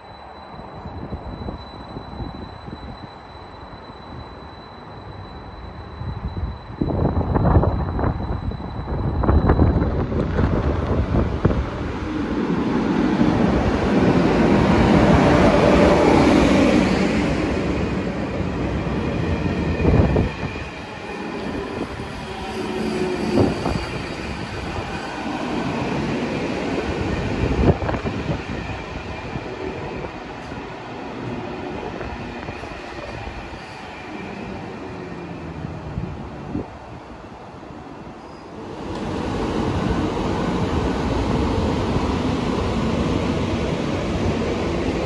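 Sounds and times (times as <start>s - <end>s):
train wheels rushing on rail: 5.2s - 45.0s.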